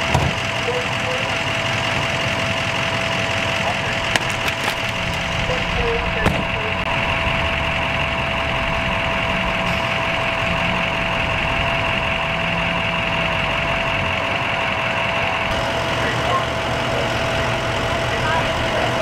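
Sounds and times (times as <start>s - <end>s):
diesel engines idling: 0.0s - 19.0s
thin steady whine: 2.9s - 19.0s.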